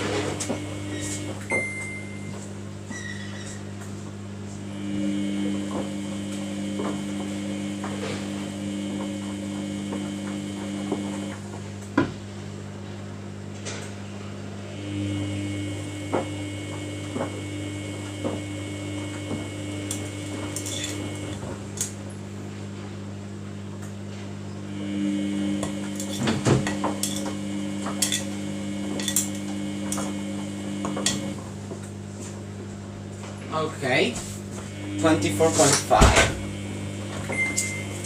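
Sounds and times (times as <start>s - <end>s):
washing machine motor whining: 0.0s - 38.0s
steady low hum: 3.6s - 13.4s, 14.1s - 38.0s.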